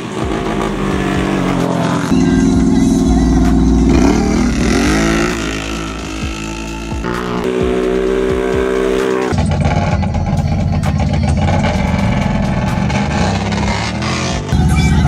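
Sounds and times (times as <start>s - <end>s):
atv engines revving: 0.0s - 15.0s.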